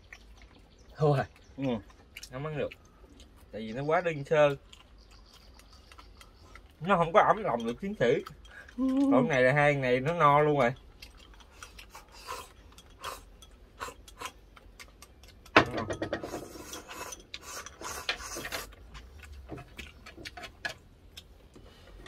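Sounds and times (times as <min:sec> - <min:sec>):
eating crunches and clicks: 0:00.0 - 0:15.6, 0:16.3 - 0:22.0.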